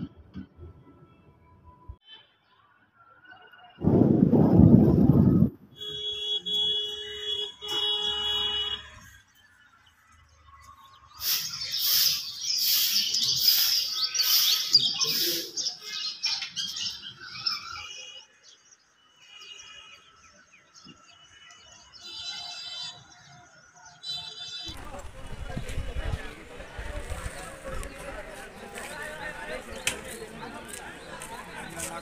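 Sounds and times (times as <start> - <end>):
birds chirping: 5.8 - 32.0.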